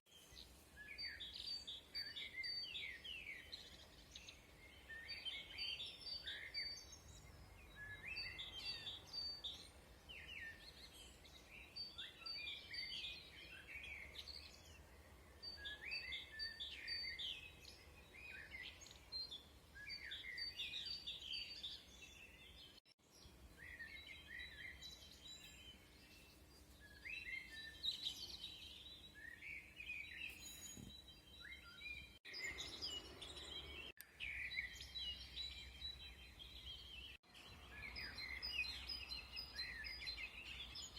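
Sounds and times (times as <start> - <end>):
bird chirping: 0.1 - 40.9.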